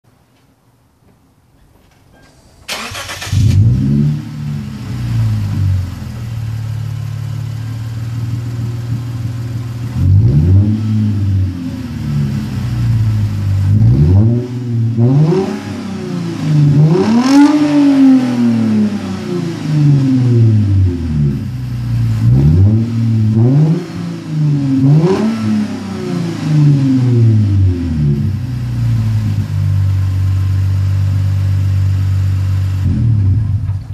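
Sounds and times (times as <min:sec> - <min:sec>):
car engine idling: 0:02.2 - 0:33.9
car engine revving: 0:02.7 - 0:33.9.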